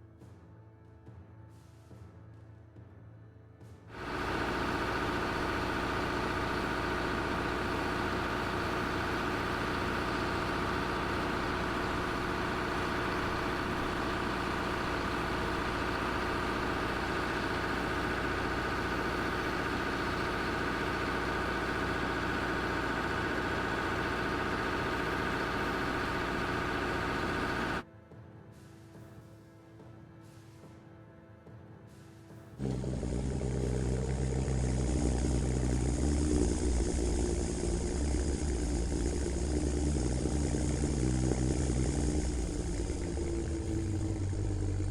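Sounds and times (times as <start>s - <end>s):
large engine idling: 3.9s - 27.8s, 32.6s - 44.9s.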